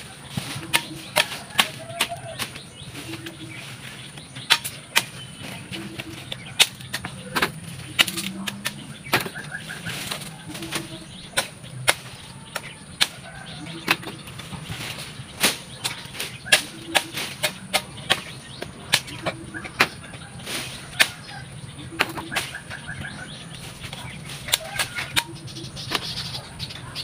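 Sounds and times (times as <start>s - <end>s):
branches snapping and knocking: 4.4s - 26.3s.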